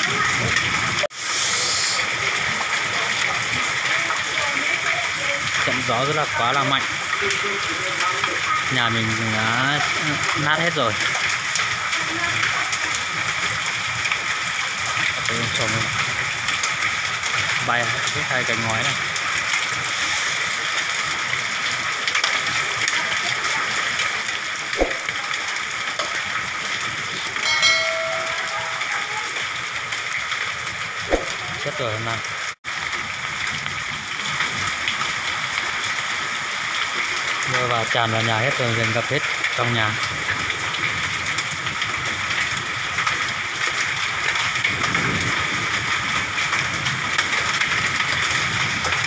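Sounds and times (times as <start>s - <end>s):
hail and rain pelting floor and pots: 0.0s - 49.0s.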